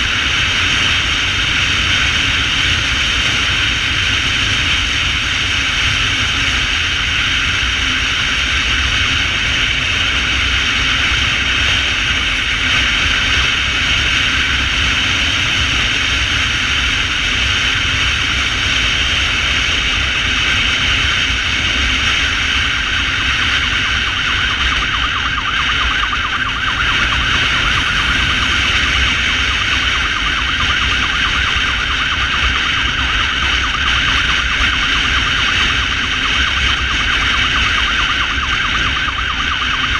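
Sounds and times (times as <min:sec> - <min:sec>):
siren sounding: 0:00.0 - 0:39.9
wind and road noise: 0:00.0 - 0:39.9.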